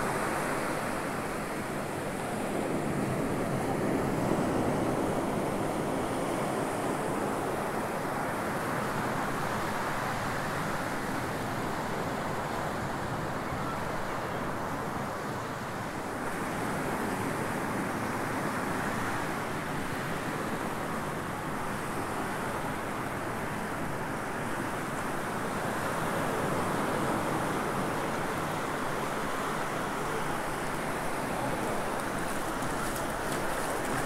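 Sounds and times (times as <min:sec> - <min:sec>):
small waves washing onto beach: 0:00.0 - 0:34.0.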